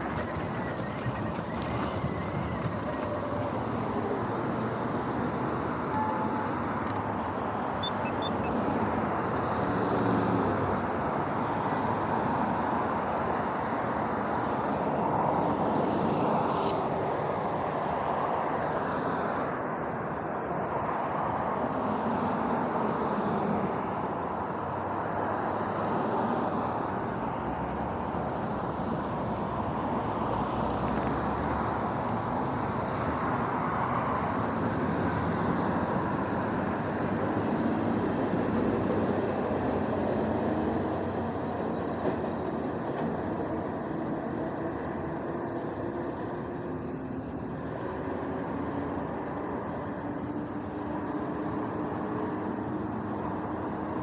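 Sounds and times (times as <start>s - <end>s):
cars driving past: 0.0s - 54.0s.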